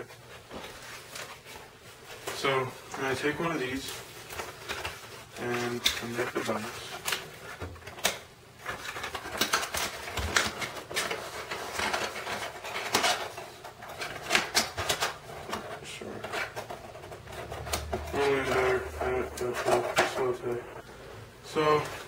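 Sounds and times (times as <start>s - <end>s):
cardboard crackling and folding: 0.0s - 22.0s.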